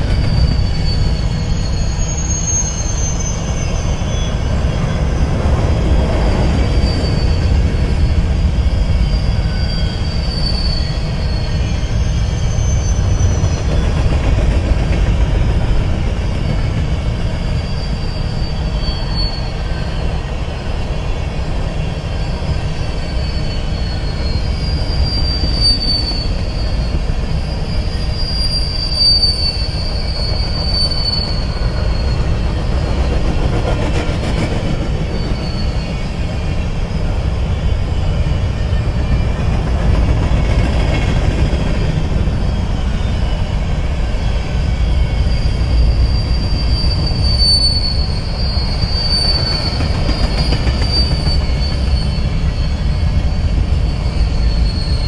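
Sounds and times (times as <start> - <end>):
high-pitched wheel squeals: 0.0 - 14.4, 15.8 - 55.0
freight train wheels rumbling: 0.0 - 55.0.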